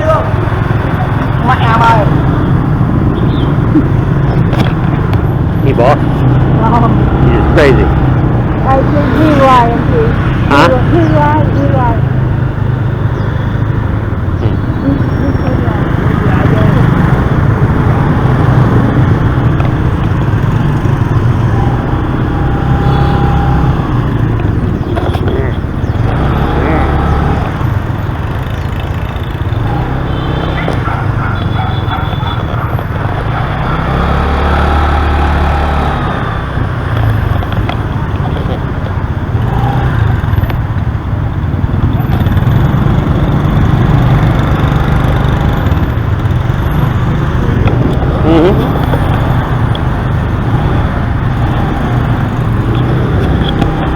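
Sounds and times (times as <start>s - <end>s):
motorbike engine: 0.0s - 53.9s
street traffic: 0.0s - 53.9s.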